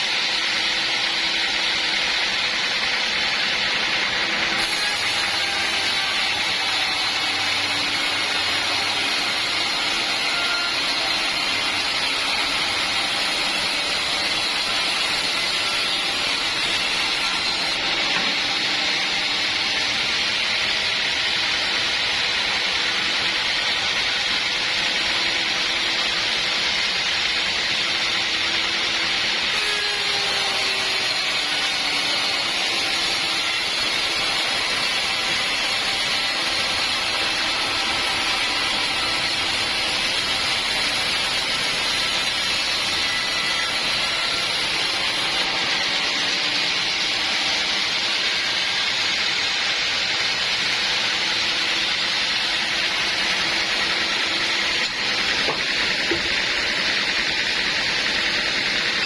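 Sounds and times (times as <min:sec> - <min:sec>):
sawmill saw cutting log: 0:00.0 - 0:59.0.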